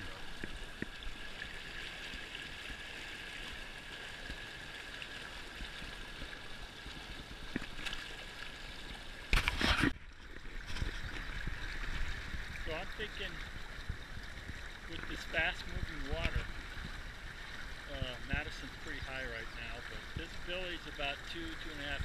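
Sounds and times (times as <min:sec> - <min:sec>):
river water gurgling and splashing: 0:00.0 - 0:22.0.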